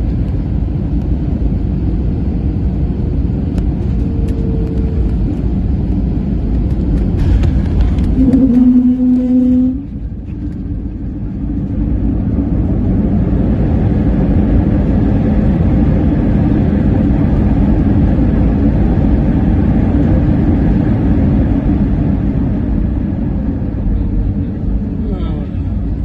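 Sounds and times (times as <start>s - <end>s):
airliner engines rumbling: 0.0s - 26.0s.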